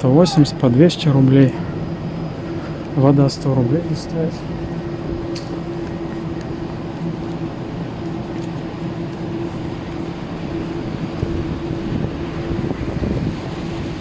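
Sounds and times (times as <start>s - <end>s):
terminal background noise: 0.0s - 14.0s
ventilation drone: 0.0s - 14.0s.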